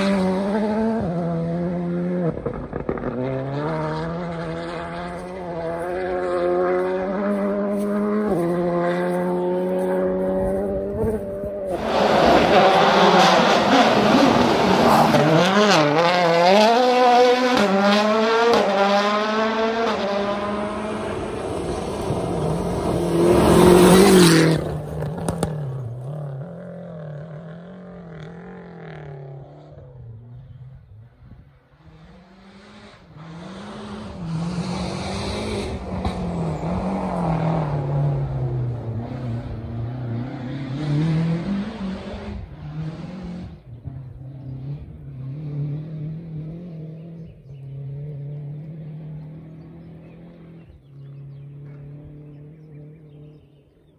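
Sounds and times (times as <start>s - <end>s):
rally car revving on gravel: 0.0s - 30.9s, 31.5s - 53.7s
rally car engine revving: 0.0s - 53.6s.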